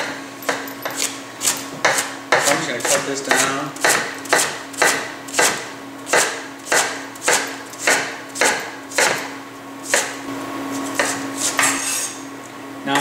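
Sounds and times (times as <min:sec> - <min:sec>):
knife chopping on wooden board: 0:00.0 - 0:10.2, 0:10.8 - 0:12.1.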